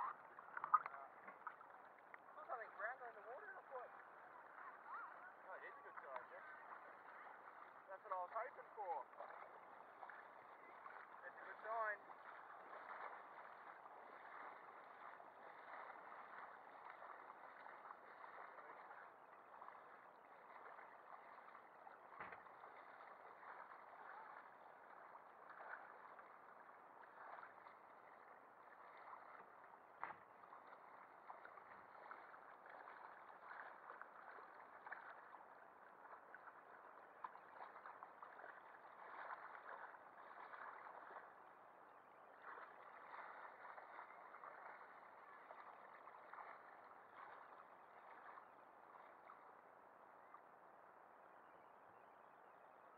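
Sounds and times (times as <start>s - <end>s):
muffled water crackle: 0.0s - 52.9s.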